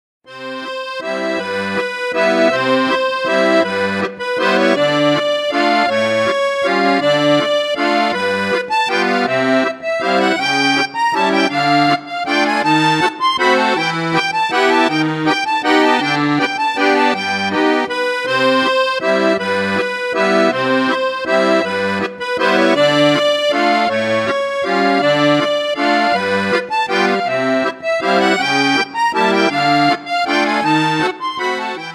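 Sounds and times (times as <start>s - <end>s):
accordion playing lively tune: 0.3s - 31.9s
bass and chord beat: 0.4s - 31.9s.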